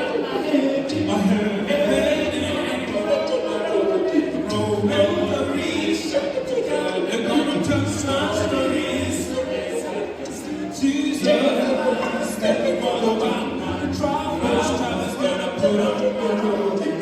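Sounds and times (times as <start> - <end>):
vocal group singing in harmony: 0.0 - 17.0.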